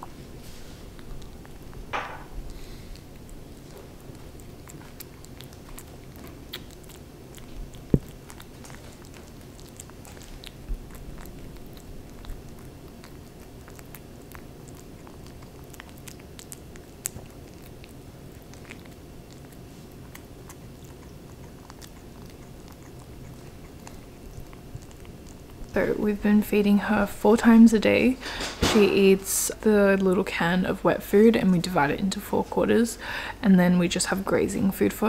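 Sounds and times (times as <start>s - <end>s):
kitten chewing and lapping food: 0.0s - 35.0s.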